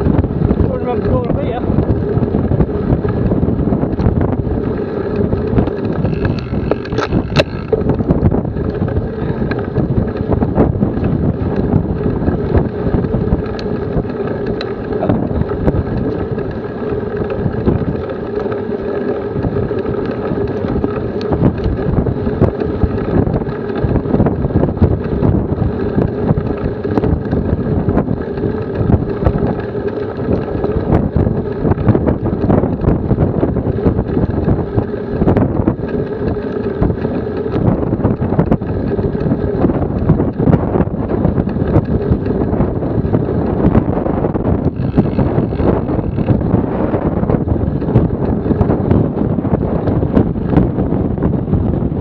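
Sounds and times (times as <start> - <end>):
steady hum: 0.0 - 52.0
wind buffeting microphone: 0.0 - 52.0.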